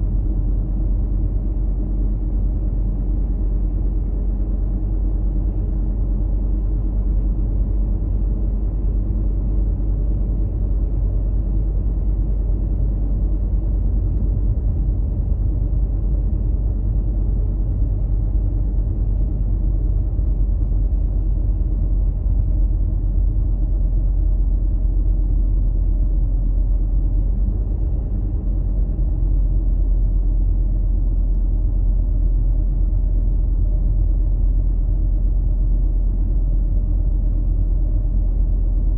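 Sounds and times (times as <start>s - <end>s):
car driving low rumble: 0.0s - 38.9s.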